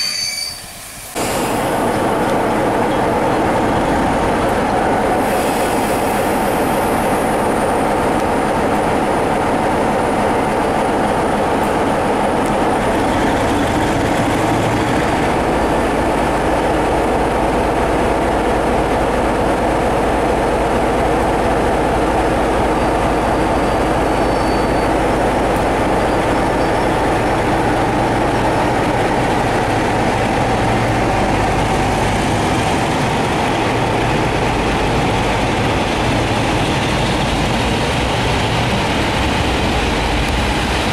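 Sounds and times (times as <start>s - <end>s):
train coaches rumbling on rails: 0.0s - 40.9s.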